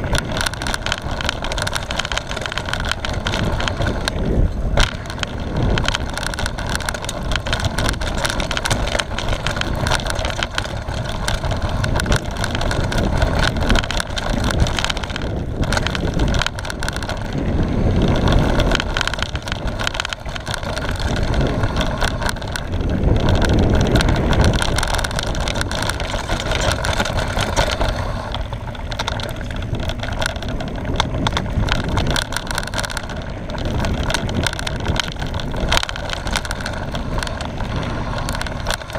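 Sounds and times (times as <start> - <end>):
bike rattling over bumps: 0.0 - 38.9
tyres on dirt: 0.0 - 38.9
wind buffeting microphone: 0.0 - 38.9.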